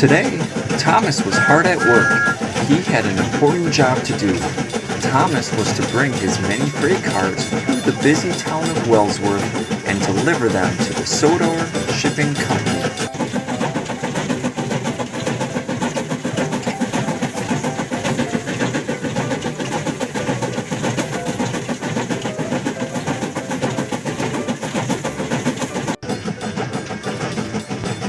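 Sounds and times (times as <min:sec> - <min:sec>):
toy train motor whirring: 0:00.0 - 0:28.0
toy train wheels rattling: 0:00.0 - 0:28.0.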